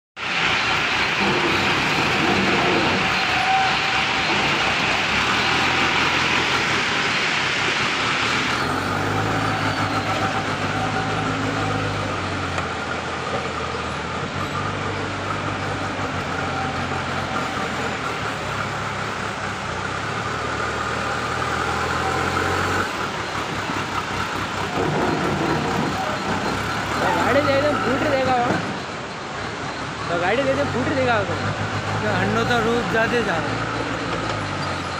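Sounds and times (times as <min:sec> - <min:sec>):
diesel engine under load: 0:00.2 - 0:34.9.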